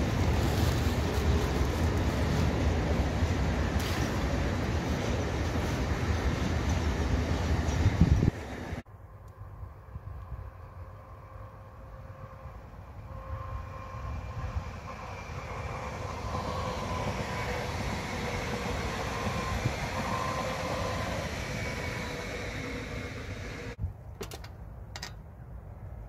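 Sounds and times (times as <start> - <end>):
electric train passing by: 0.0 - 23.8.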